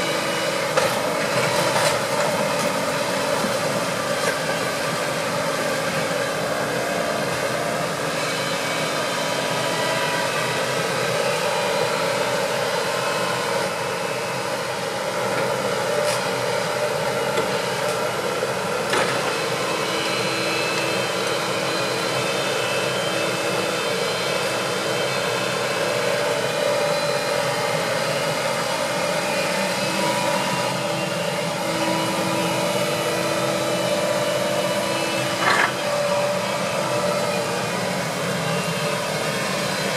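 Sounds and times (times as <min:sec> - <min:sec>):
excavator diesel engine: 0:00.0 - 0:39.9
hydraulic whine: 0:00.0 - 0:39.9.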